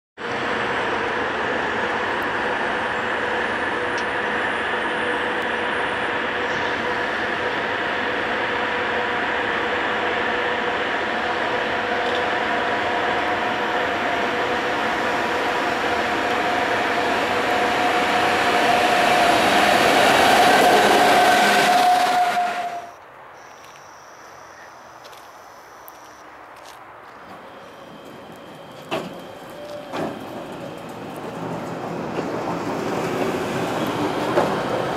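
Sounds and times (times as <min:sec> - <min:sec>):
train rolling noise: 0:00.2 - 0:23.8, 0:24.6 - 0:34.9
locomotive whine: 0:00.2 - 0:34.9.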